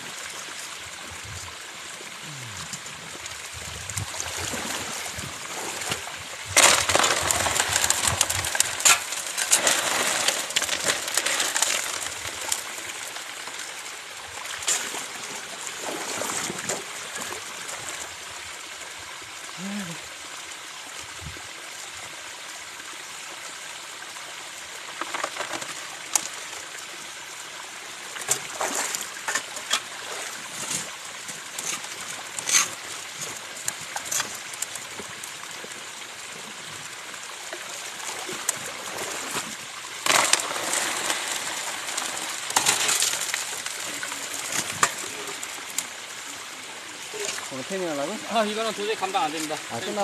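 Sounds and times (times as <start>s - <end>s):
water running through sluice box: 0.0s - 50.0s.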